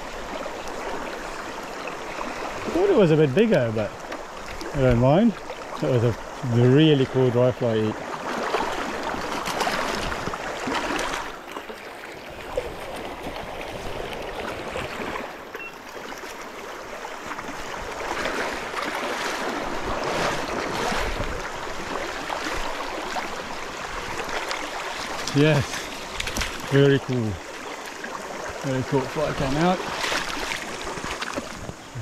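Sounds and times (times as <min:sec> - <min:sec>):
river water rushing over stones: 0:00.0 - 0:32.0
water splashing close by: 0:00.0 - 0:32.0.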